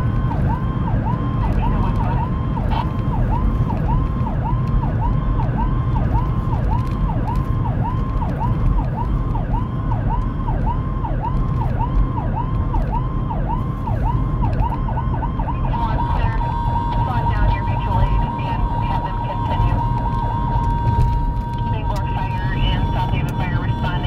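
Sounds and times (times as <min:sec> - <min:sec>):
electronic siren wailing: 0:00.0 - 0:24.0
road and engine rumble: 0:00.0 - 0:24.0.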